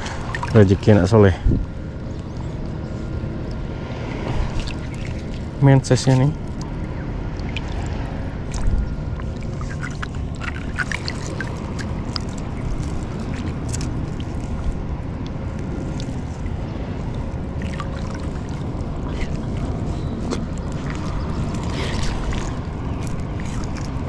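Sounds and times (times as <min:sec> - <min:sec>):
small clicks and drips: 0:00.0 - 0:00.7, 0:04.4 - 0:05.6, 0:06.4 - 0:24.0
wind and water rumble: 0:00.0 - 0:24.0.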